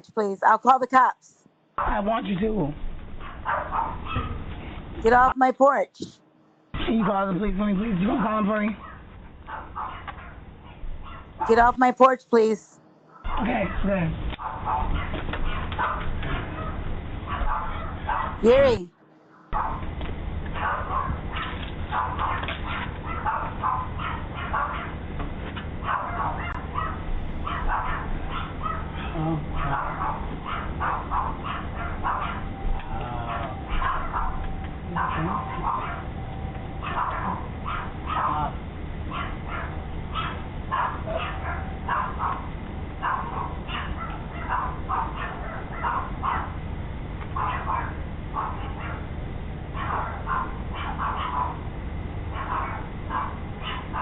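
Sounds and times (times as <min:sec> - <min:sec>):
dog barking: 0:01.8 - 0:02.3, 0:03.2 - 0:04.4, 0:06.9 - 0:11.6, 0:13.1 - 0:18.7, 0:19.3 - 0:19.8, 0:20.6 - 0:25.0, 0:25.8 - 0:36.2, 0:36.8 - 0:46.6, 0:47.3 - 0:51.6, 0:52.3 - 0:54.0.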